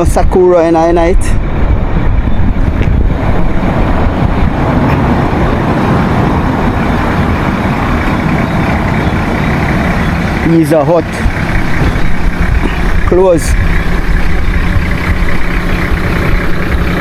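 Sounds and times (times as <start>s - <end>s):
heavy vehicle engine rumble: 0.0s - 17.0s
road traffic noise: 0.0s - 17.0s.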